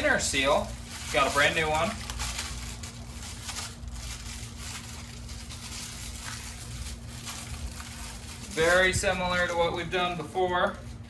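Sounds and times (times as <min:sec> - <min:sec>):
handling ticks and rustles: 0:00.0 - 0:11.0.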